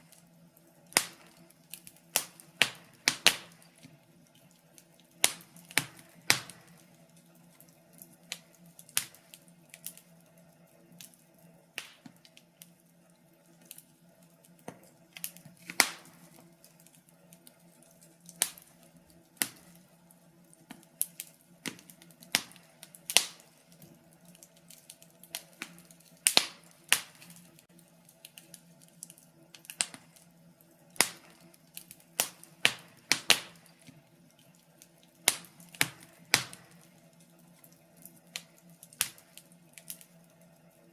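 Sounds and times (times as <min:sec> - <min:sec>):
fireplace fire crackling: 0:00.0 - 0:40.9.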